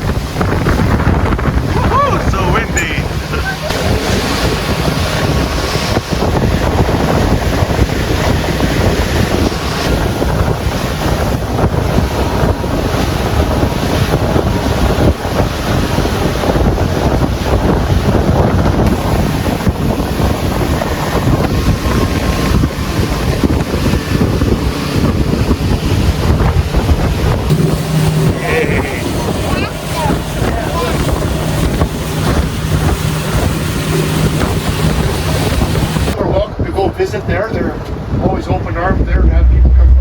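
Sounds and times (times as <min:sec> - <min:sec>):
boat water and motor noise: 0:00.0 - 0:40.0
wind on microphone: 0:00.0 - 0:40.0.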